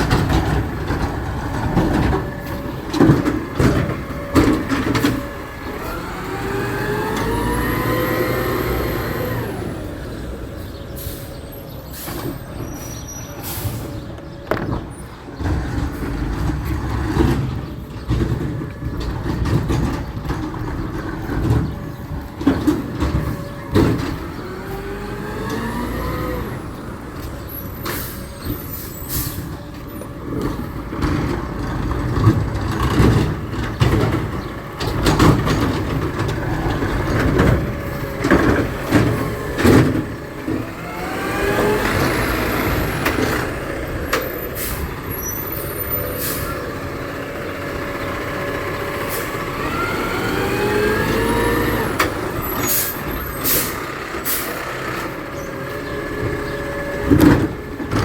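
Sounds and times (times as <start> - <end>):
garbage truck engine revving: 0.0 - 58.0.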